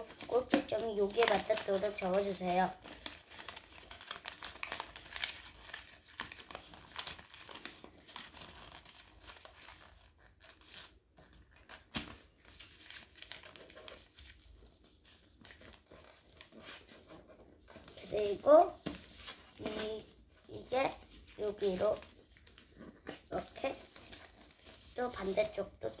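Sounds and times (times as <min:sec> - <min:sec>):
paper rustling and crinkling: 0:00.0 - 0:26.0.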